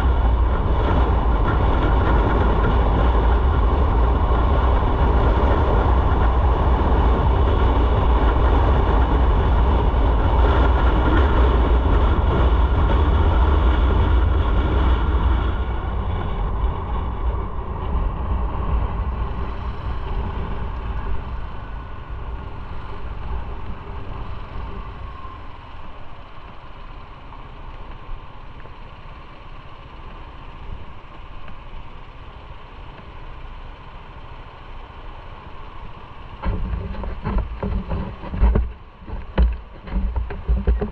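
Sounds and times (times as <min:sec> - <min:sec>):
wind rush on microphone: 0:00.0 - 0:29.9, 0:33.4 - 0:40.9
motorcycle engine: 0:00.0 - 0:40.9.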